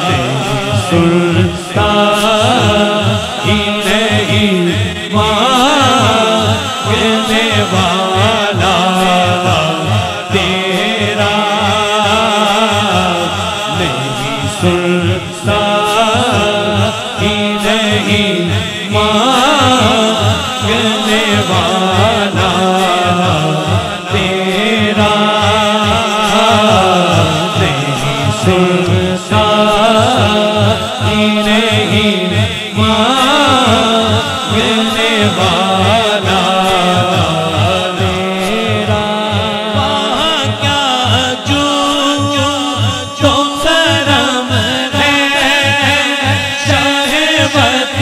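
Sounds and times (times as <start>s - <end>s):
low pulsing beat: 0.0s - 47.0s
voices chanting and humming: 0.0s - 48.0s.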